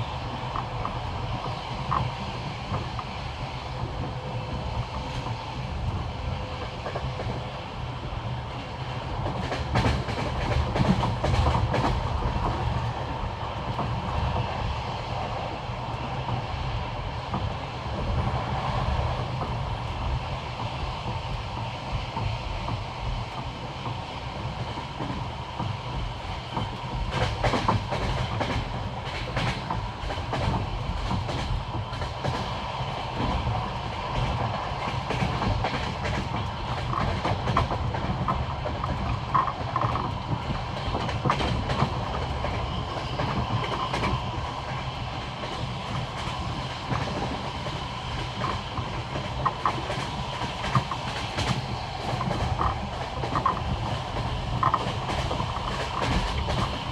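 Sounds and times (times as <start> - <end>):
train carriage rumbling: 0.0 - 56.9.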